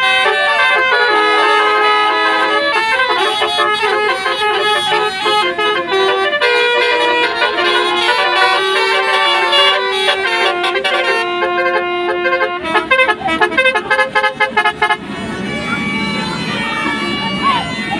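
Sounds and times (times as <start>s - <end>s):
musical horn playing melody: 0.0s - 17.2s.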